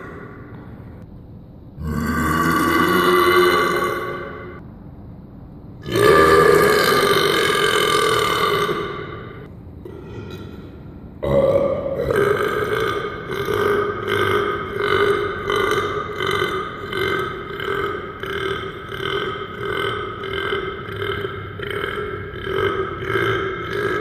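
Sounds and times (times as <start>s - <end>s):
long human belch: 1.8s - 4.6s, 5.8s - 10.5s, 11.2s - 24.0s.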